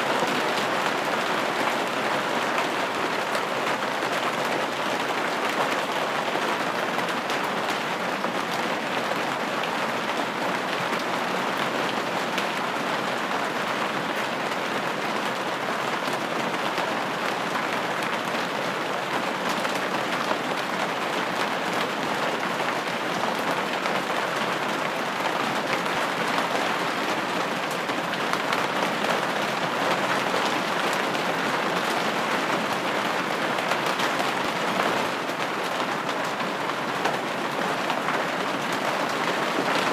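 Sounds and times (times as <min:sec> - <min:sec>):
rain pattering on window: 0:00.1 - 0:39.9.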